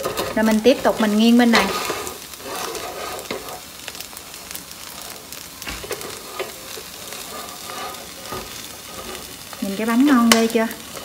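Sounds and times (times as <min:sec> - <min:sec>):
crepe sizzling in a wok: 0:00.0 - 0:11.0
sharp crackles: 0:00.3 - 0:11.0.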